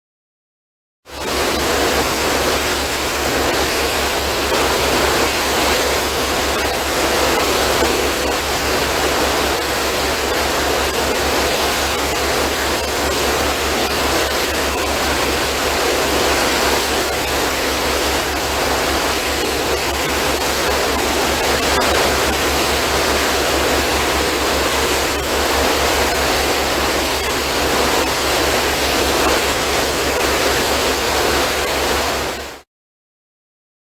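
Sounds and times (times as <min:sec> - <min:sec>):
ship turbine engine roaring: 0:01.1 - 0:32.6.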